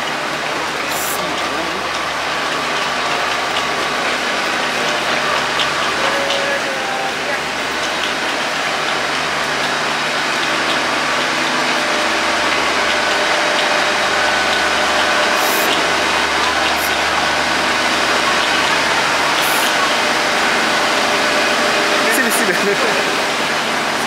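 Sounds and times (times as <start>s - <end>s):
diesel train idling drone: 0.0s - 24.0s.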